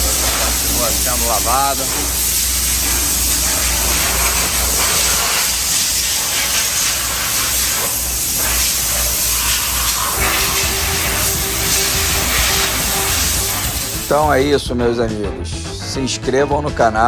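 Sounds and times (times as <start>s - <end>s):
steady low hum: 0.0s - 14.4s
high-pressure water spray hissing: 0.0s - 14.5s.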